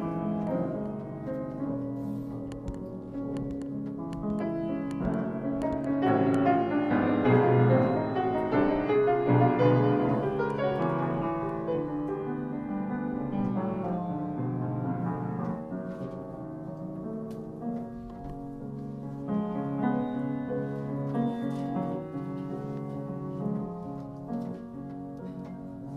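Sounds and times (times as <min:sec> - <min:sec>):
piano piece: 0:00.0 - 0:25.9.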